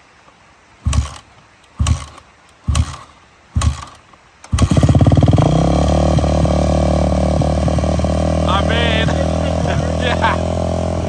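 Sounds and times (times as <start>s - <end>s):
dirt bike engine running: 0.8s - 11.0s
dirt bike kick-start bursts: 0.8s - 11.0s.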